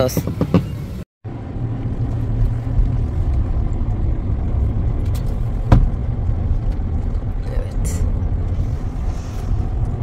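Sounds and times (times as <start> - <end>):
car driving with low rumble: 0.0 - 10.0.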